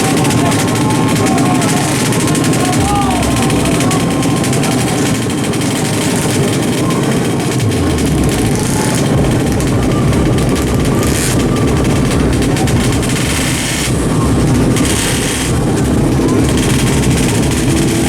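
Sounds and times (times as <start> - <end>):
dense background noise: 0.0 - 18.0
drag bike engines running: 0.0 - 18.0.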